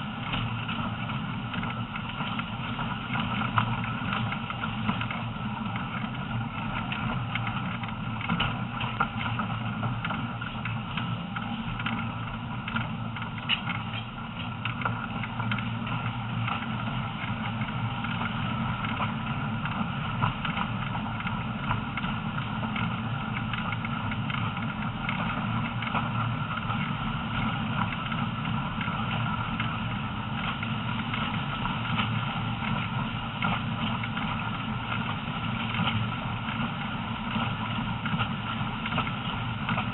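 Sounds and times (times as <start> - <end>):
train wheels rumbling: 0.0 - 39.9.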